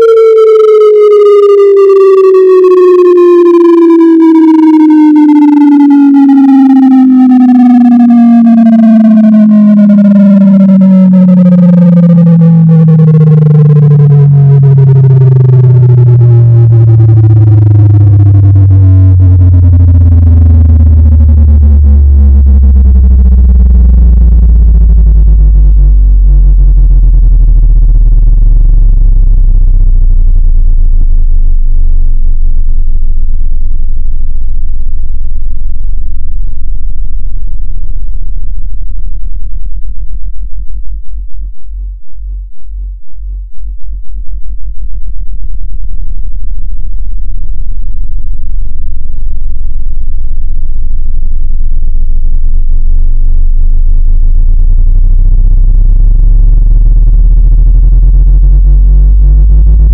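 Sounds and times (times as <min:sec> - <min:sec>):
low synthesized drone: 0:00.0 - 0:59.9.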